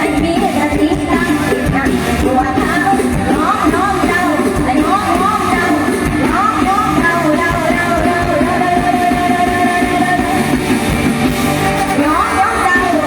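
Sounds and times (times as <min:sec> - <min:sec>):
person singing: 0:00.0 - 0:10.8
live band music: 0:00.0 - 0:13.0.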